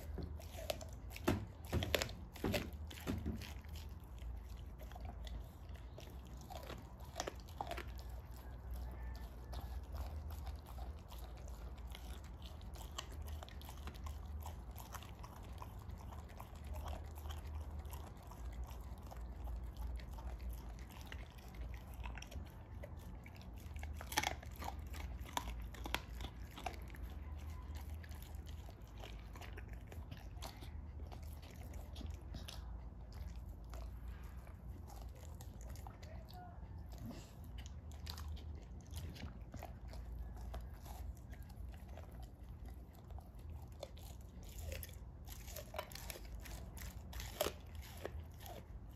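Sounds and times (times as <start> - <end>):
dog chewing raw meat: 0.0 - 48.9.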